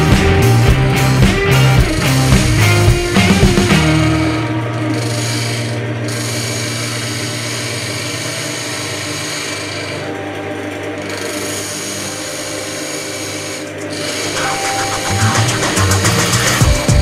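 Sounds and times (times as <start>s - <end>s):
lathe motor hum: 0.0s - 17.0s
woodturning tool scraping wood: 2.0s - 17.0s.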